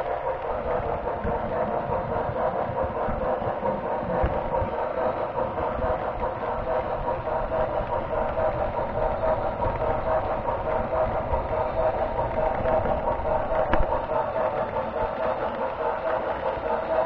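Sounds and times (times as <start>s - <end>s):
model train running on track: 0.0s - 17.0s.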